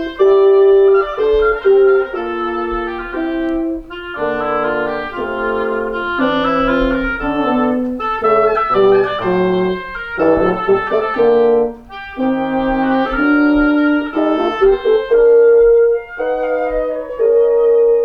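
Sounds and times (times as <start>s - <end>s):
woodwind quintet playing classical piece: 0.0s - 18.0s.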